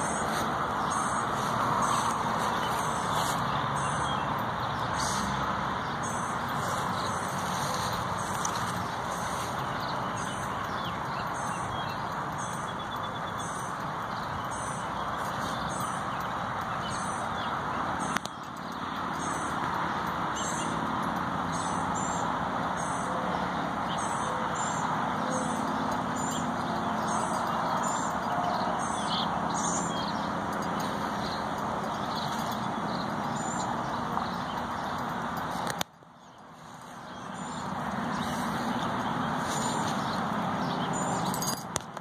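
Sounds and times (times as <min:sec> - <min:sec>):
small bird chirping: 0:00.0 - 0:41.6.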